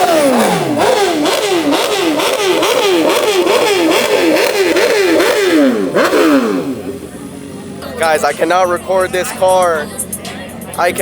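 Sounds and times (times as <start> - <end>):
car engine throttle blips: 0.0 - 11.0.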